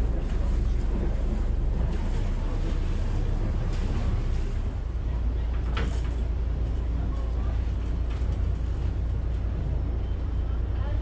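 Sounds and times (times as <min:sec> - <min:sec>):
boat diesel engine rumbling: 0:00.0 - 0:11.0.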